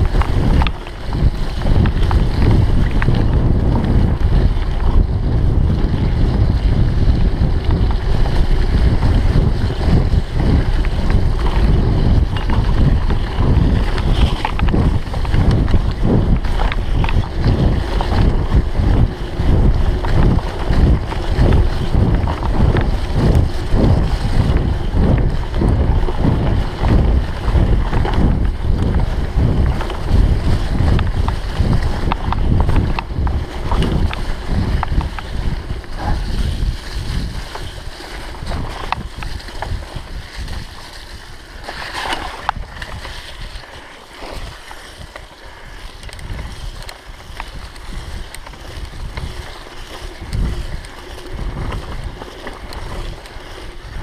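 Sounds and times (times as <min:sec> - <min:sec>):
bike rattling over rough ground: 0:00.0 - 0:54.0
wind buffeting microphone: 0:00.0 - 0:54.0.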